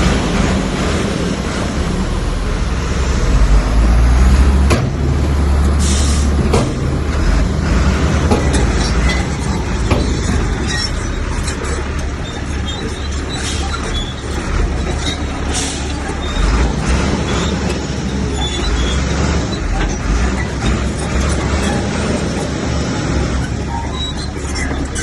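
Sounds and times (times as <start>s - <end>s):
bulldozer diesel engine rumbling: 0.0s - 25.0s.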